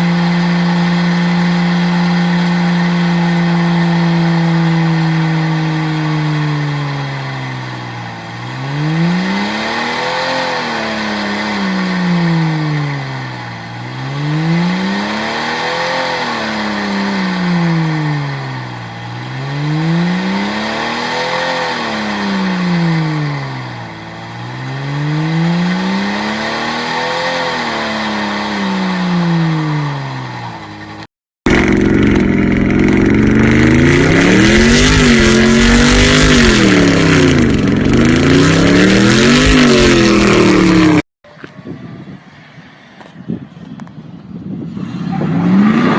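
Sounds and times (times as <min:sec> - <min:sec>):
engine revving up and down: 0:00.0 - 0:41.1, 0:44.6 - 0:45.9
engine at steady high revs: 0:00.0 - 0:42.2, 0:44.6 - 0:45.9.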